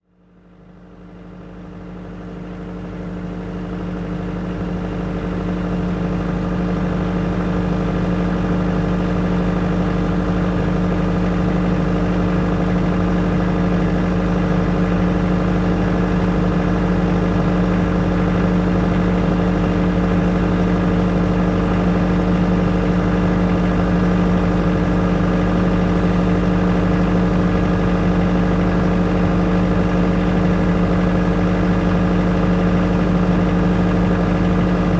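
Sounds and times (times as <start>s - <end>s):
generator engine humming: 3.4s - 34.9s.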